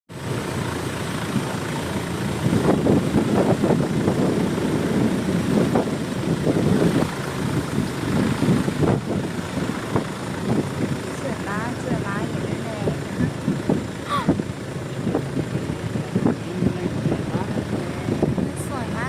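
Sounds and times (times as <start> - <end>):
boat engine running: 0.1 - 19.0.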